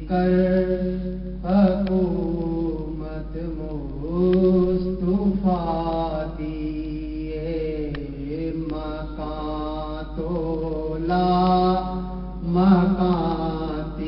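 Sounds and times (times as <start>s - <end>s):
man chanting into a microphone: 0.0s - 14.0s
steady low hum: 0.0s - 14.0s.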